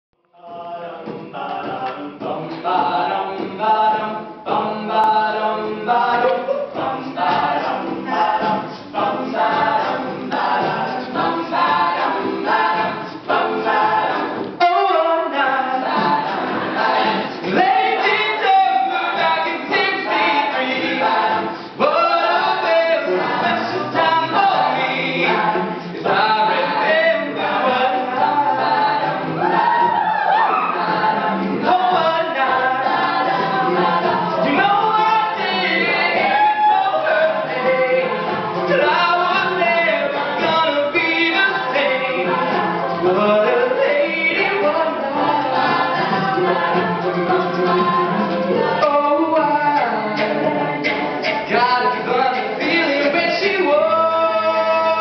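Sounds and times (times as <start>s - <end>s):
a cappella group singing: 0.2s - 55.0s.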